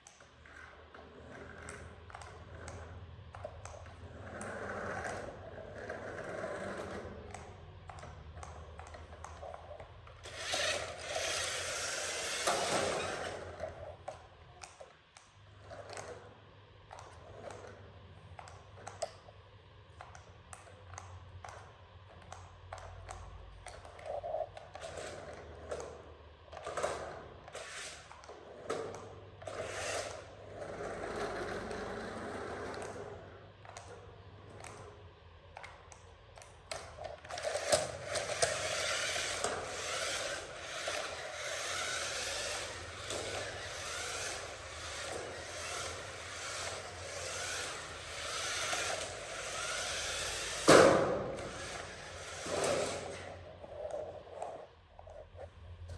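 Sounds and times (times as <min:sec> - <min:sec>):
toy vehicles scraping and clicking: 0:00.0 - 0:16.2, 0:22.2 - 0:34.0, 0:34.6 - 0:55.9.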